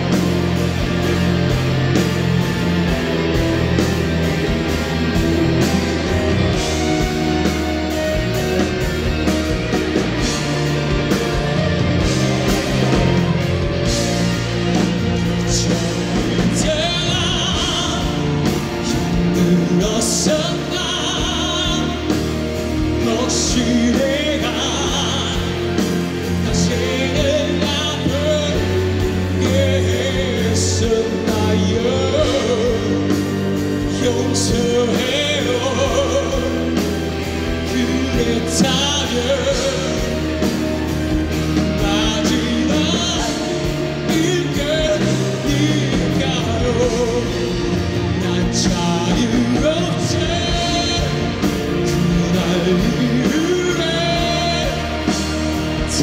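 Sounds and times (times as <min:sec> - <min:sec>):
live rock band: 0:00.0 - 0:56.0
vocalist singing with vibrato: 0:00.0 - 0:56.0.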